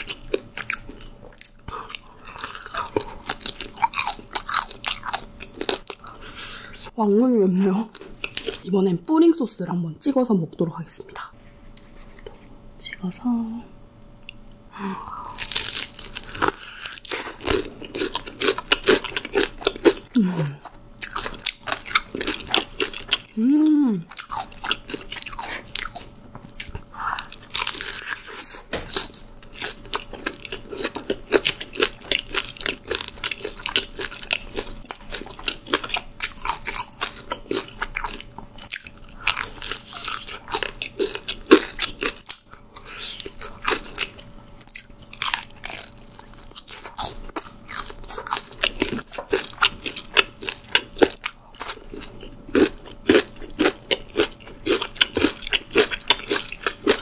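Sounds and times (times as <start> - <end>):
crunching fried chicken: 0.0 - 6.9, 15.3 - 23.3, 24.1 - 57.0.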